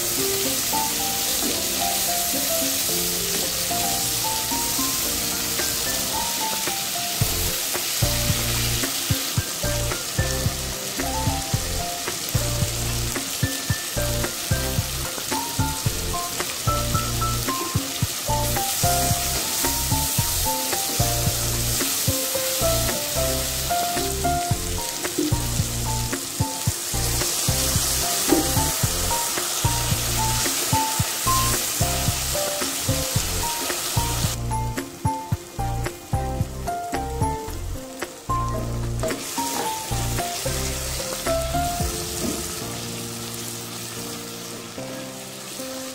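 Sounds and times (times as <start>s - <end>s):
background music with beat: 0.0s - 44.1s
vegetables sizzling in oil: 0.0s - 45.9s.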